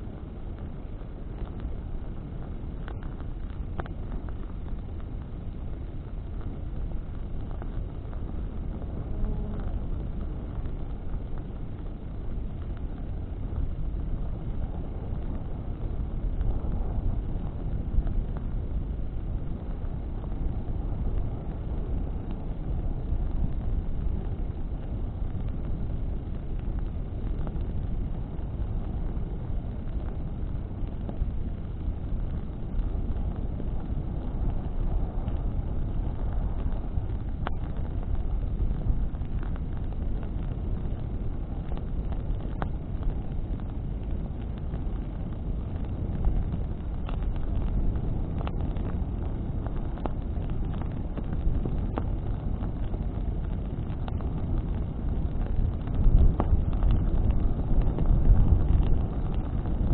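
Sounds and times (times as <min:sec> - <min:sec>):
burning branches crackling: 0:00.0 - 0:59.9
wind and flames rushing: 0:00.0 - 0:59.9.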